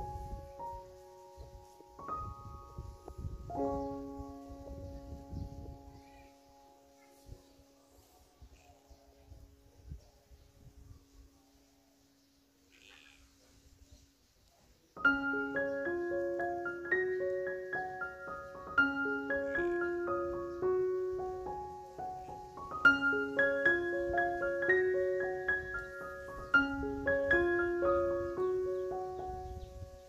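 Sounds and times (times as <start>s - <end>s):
light piano melody: 0.0s - 14.0s, 14.8s - 30.0s.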